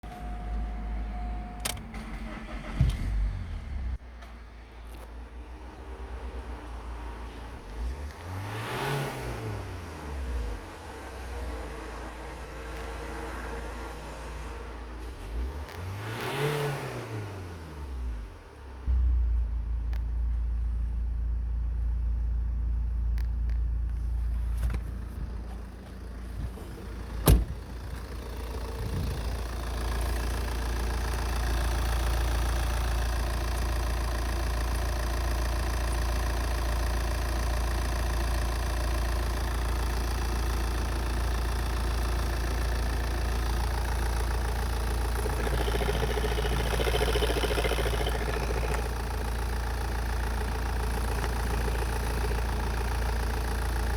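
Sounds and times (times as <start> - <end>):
diesel engine idling: 0.0 - 8.4, 18.2 - 53.9.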